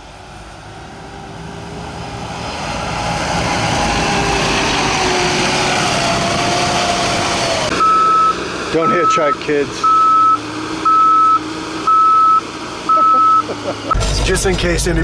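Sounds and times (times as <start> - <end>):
snow vehicle engine and tracks: 0.0 - 15.0.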